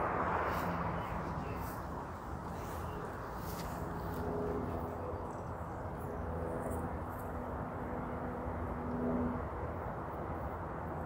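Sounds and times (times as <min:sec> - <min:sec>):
distant traffic rumble: 0:00.0 - 0:11.0
faint held drone: 0:00.0 - 0:11.0.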